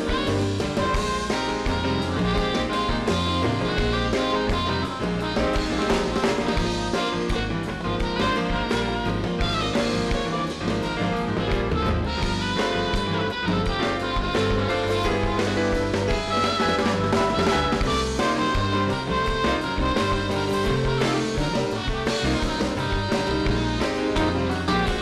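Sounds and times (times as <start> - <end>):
bass guitar: 0.0 - 25.0
drums: 0.0 - 25.0
electric guitar: 0.0 - 25.0
keyboards: 0.0 - 25.0.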